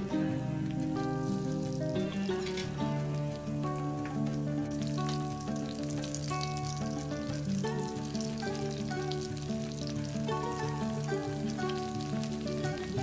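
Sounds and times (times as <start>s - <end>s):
background music of held notes: 0.0s - 13.0s
deep-frying sizzle in oil: 0.0s - 13.0s.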